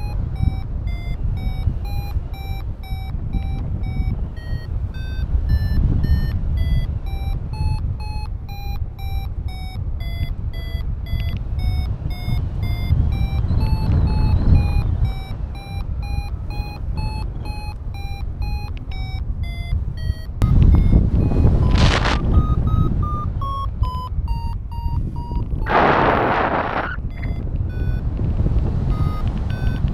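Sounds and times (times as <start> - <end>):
variometer short beeps: 0.0 - 28.1, 28.9 - 29.9
wind rumbling on microphone: 0.0 - 29.9.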